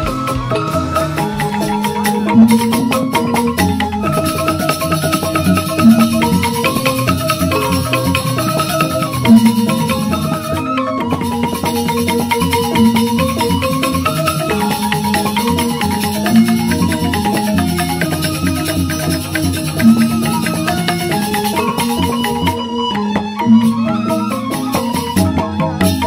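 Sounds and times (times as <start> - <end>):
gamelan music: 0.0 - 26.0.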